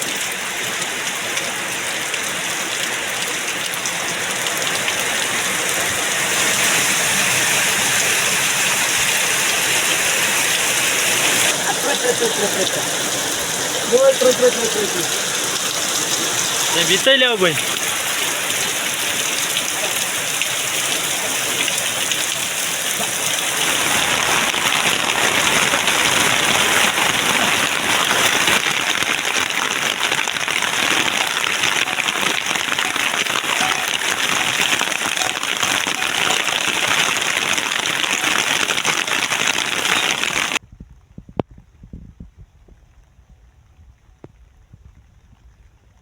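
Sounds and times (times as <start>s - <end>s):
rain pouring: 0.0s - 40.6s.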